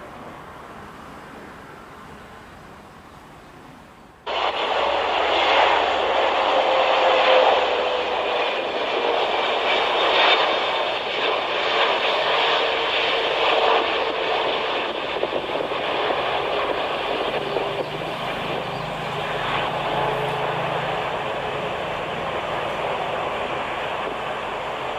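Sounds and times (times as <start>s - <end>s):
airplane engines running: 0.0s - 24.9s.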